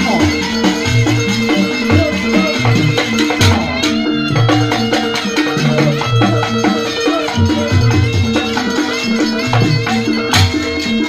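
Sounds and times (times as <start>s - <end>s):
shawm melody: 0.0s - 11.0s.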